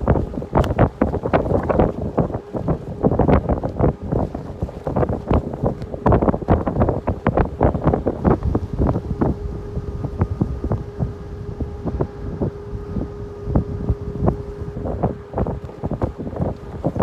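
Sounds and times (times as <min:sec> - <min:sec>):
steady hum: 0:00.0 - 0:17.0
wind buffeting microphone: 0:00.0 - 0:17.0.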